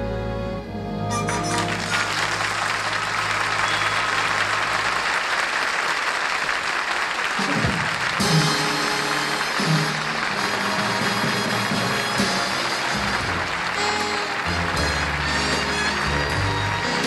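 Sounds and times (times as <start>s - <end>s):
orchestra playing: 0.0s - 5.0s, 7.5s - 17.0s
audience applauding: 1.1s - 17.0s.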